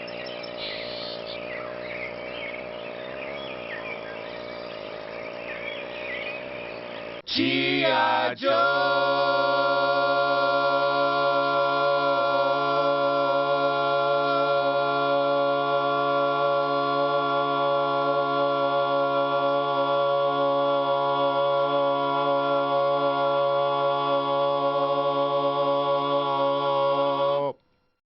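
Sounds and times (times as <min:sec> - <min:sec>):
held choir-like organ chord: 0:00.0 - 0:27.9.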